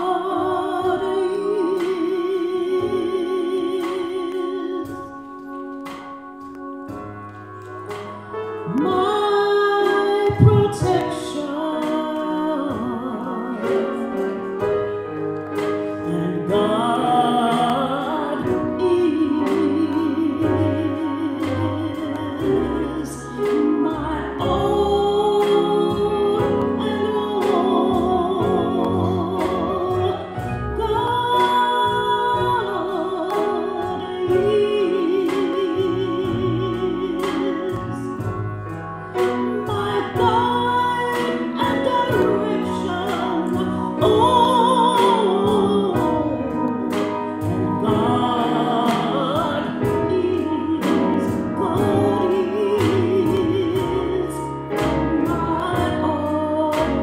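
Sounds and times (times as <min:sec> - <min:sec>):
choir singing gospel music: 0:00.0 - 0:57.0
instrumental accompaniment with beat: 0:00.0 - 0:57.0.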